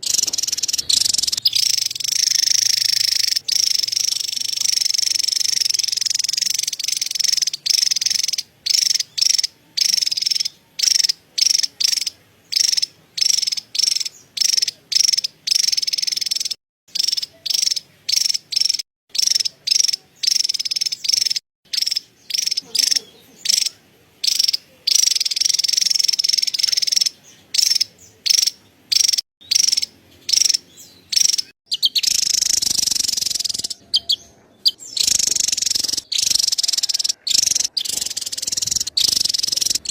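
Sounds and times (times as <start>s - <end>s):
bird chattering churr: 0.0s - 39.9s.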